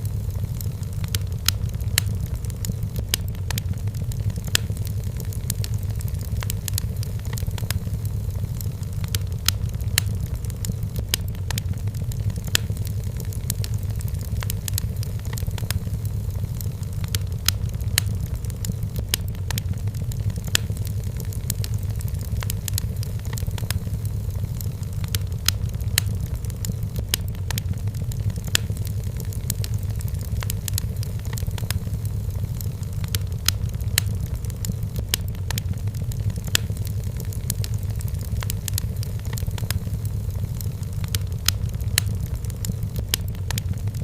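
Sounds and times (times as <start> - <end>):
firewood crackling and popping: 0.0 - 44.0
low rumble of flames: 0.0 - 44.0.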